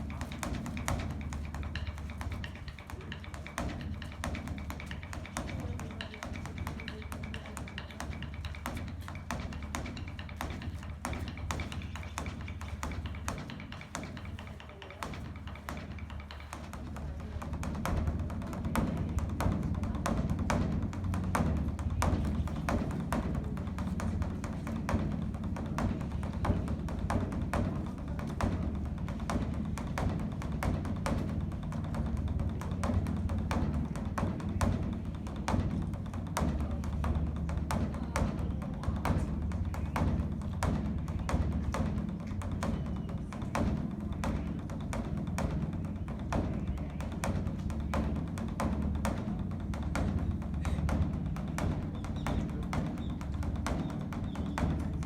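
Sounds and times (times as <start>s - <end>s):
drumstick strokes patter: 0.0s - 55.0s
large drum deep booming: 0.0s - 55.0s.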